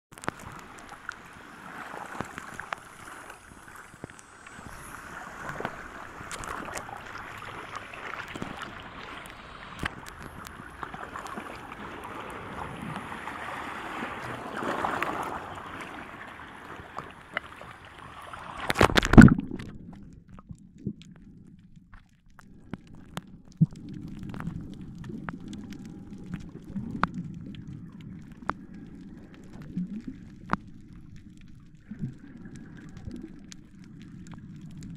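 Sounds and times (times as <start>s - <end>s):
faint clicks underwater: 0.1s - 13.4s, 14.2s - 34.9s
muffled underwater sound: 0.1s - 34.9s
water sloshing and splashing: 0.1s - 34.9s.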